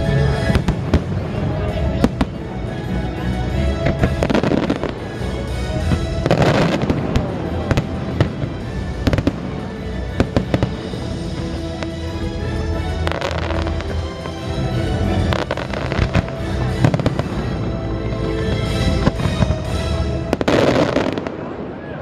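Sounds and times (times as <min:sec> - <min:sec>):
loud music: 0:00.0 - 0:21.4
fireworks bangs and crackling: 0:00.0 - 0:22.0.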